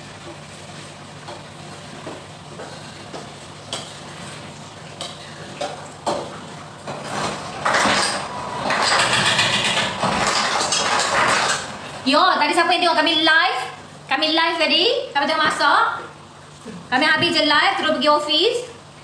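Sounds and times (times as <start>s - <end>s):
fan hum: 0.0s - 19.0s.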